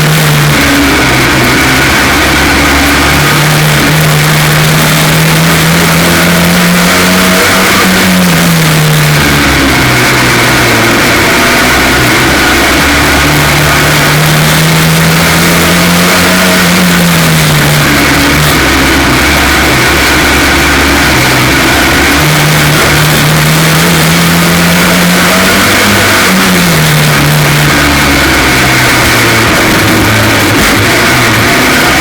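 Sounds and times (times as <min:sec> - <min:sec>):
race car engine accelerating: 0:00.0 - 0:32.0.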